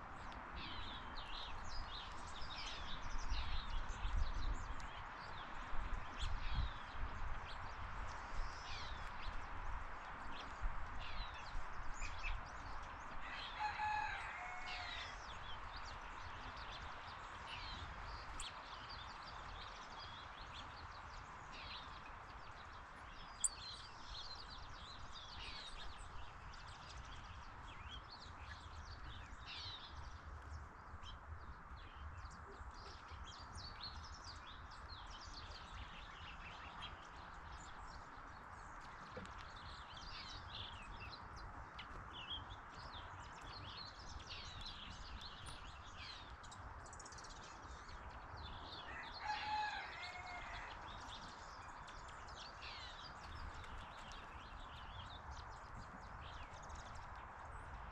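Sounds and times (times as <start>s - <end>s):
wild birds chirping: 0.0s - 57.9s.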